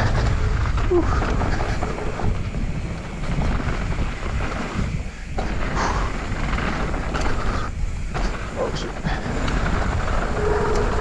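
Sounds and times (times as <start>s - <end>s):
mountain bike rattling on dirt trail: 0.0s - 11.0s
wind on microphone: 0.0s - 11.0s.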